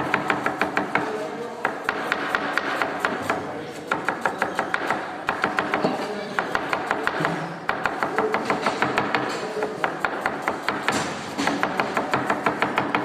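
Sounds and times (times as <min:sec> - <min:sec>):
knife chopping on cutting board: 0:00.0 - 0:13.0.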